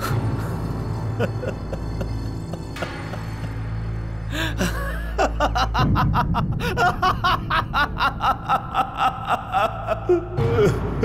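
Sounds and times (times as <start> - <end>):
man laughing hard: 1.0 - 3.7, 4.3 - 11.0.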